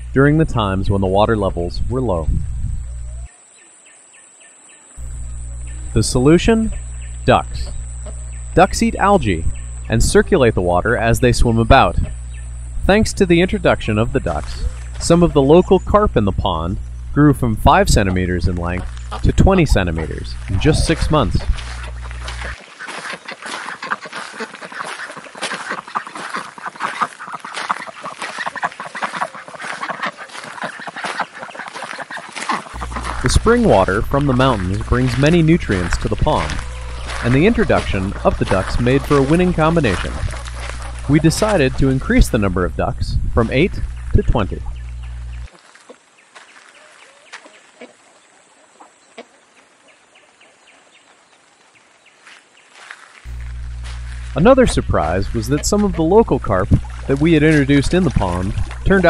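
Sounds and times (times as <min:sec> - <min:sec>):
ducks quacking: 0:05.0 - 0:46.0, 0:46.6 - 0:50.9, 0:52.8 - 0:59.0.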